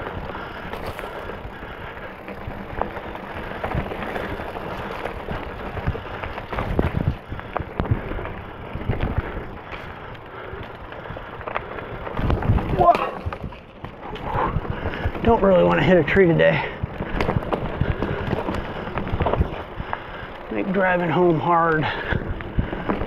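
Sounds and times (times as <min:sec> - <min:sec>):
bike rattling over bumps: 0:00.0 - 0:23.0
bike tyres on dirt trail: 0:00.0 - 0:23.0.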